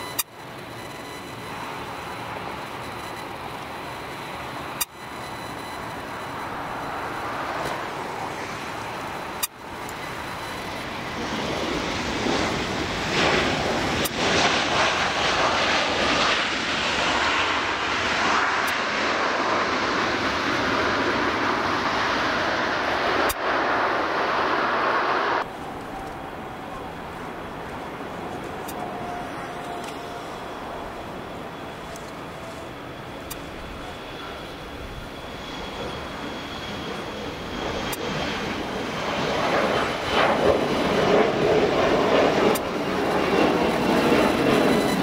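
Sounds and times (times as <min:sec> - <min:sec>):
jet engines rushing: 0:00.0 - 0:45.0.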